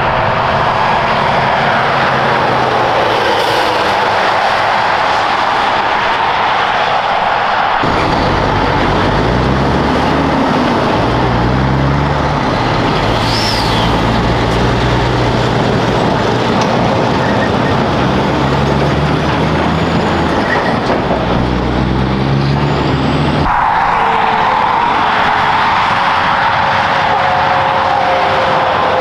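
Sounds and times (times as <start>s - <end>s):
truck diesel engine pulling away: 0.0s - 5.7s, 7.8s - 29.0s
traffic noise: 0.0s - 29.0s.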